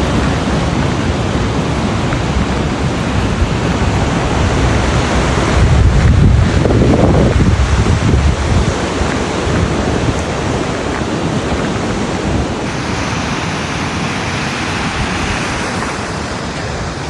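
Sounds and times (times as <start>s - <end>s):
ocean surf on beach: 0.0s - 17.0s
wind rumbling on microphone: 0.0s - 17.0s.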